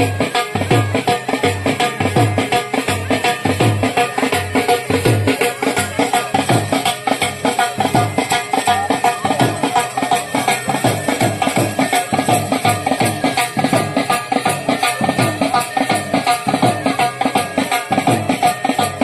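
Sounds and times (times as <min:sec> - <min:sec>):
dhol drums fast dance beat: 0:00.0 - 0:19.0
held high tone: 0:00.0 - 0:19.0.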